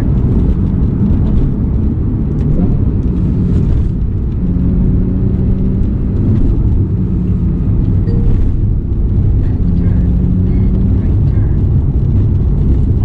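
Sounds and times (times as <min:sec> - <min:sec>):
car engine running: 0:00.0 - 0:13.0
low road rumble: 0:00.0 - 0:13.0.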